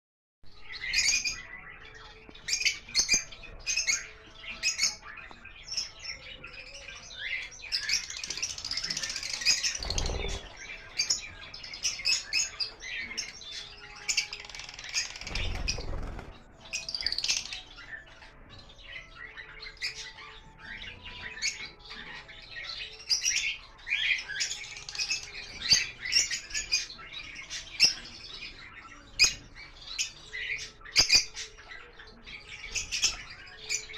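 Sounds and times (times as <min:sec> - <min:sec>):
birds chirping and squawking: 0:00.5 - 0:33.9.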